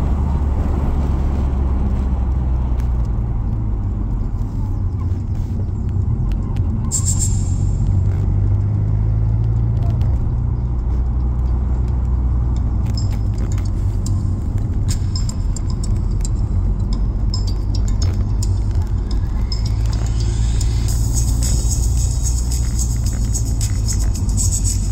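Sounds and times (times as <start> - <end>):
car engine and tyres rumbling: 0.0 - 24.9.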